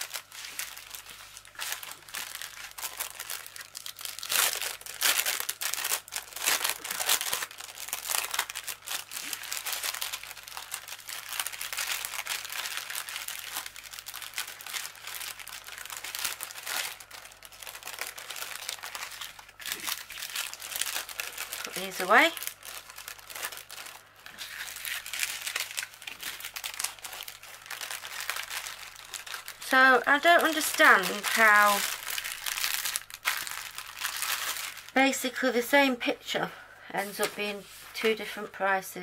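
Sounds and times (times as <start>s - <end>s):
plastic bags crinkling: 0.0s - 35.8s.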